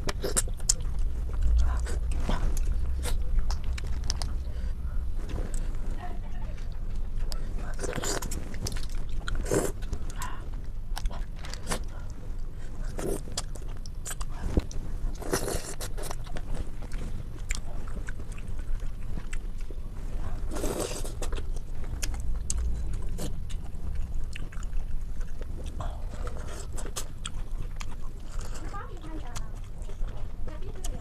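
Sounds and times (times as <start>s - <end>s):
person chewing and biting: 0.0s - 5.8s, 6.9s - 28.7s.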